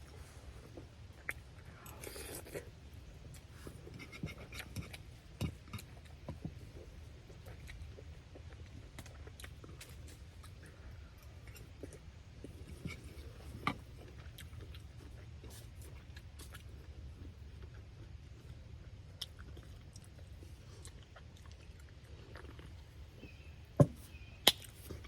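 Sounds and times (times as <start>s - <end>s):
quiet chewing: 0.0s - 25.0s
steady low hum: 0.0s - 25.0s.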